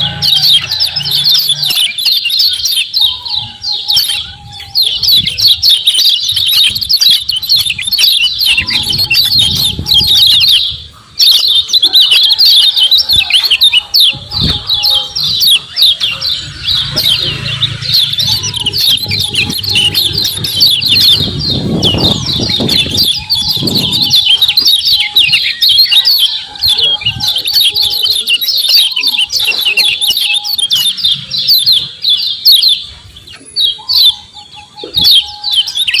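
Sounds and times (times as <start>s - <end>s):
birds chirping rapidly: 0.0s - 36.0s.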